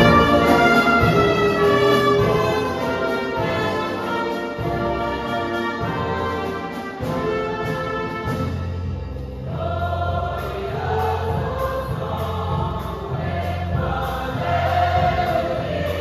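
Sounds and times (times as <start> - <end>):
orchestra with brass chords: 0.0 - 16.0.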